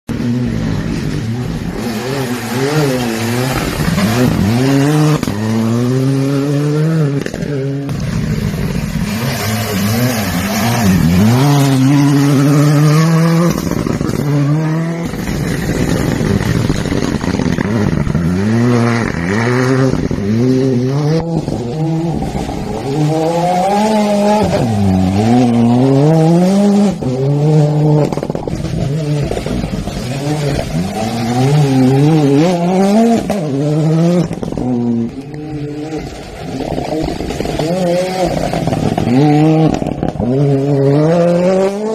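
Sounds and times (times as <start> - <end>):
rally car engines accelerating: 0.1 - 41.9.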